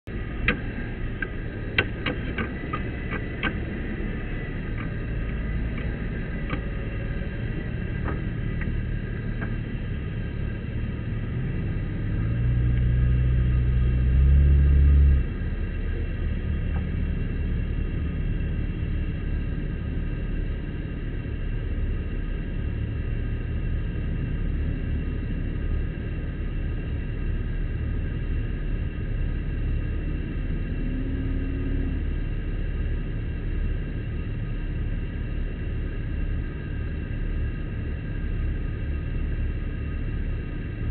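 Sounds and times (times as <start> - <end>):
engine running and revving: 0.0 - 40.9.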